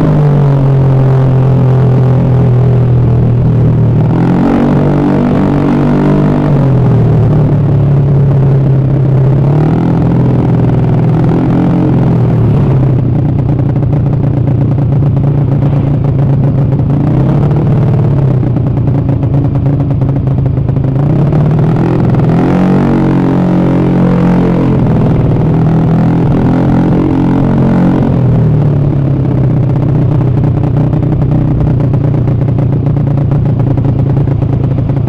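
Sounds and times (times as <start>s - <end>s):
scooter engine idling fast: 0.0s - 35.0s.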